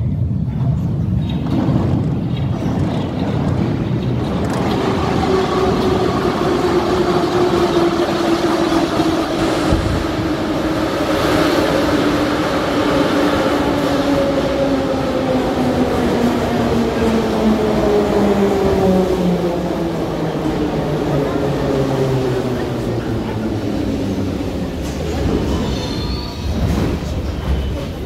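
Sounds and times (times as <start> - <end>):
metro train wheels rumbling on rail: 0.0 - 28.0.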